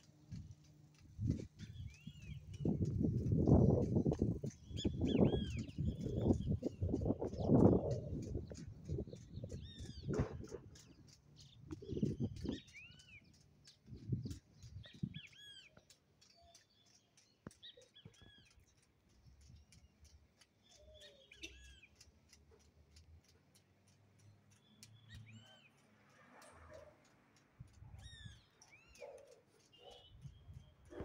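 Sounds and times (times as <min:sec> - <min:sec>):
faint steady ticking: 0:00.0 - 0:31.0
small birds chirping: 0:00.0 - 0:31.0.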